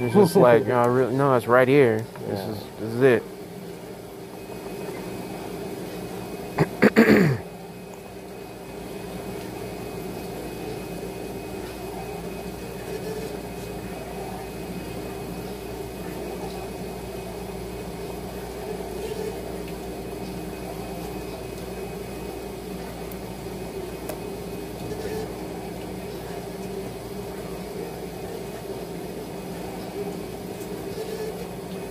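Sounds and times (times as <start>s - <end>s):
machinery hum: 0.0s - 31.9s.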